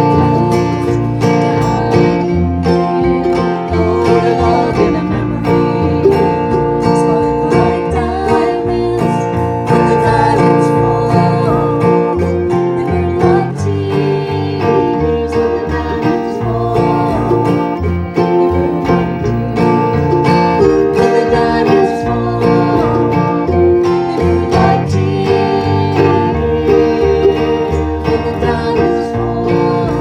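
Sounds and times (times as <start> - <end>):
acoustic string band playing: 0.0 - 30.0
banjo: 0.0 - 30.0
plucked guitar: 0.0 - 30.0.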